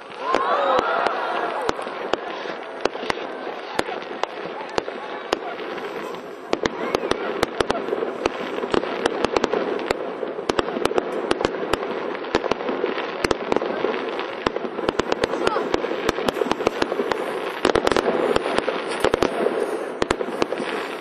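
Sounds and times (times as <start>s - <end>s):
fireworks cracking and banging: 0.0s - 21.0s.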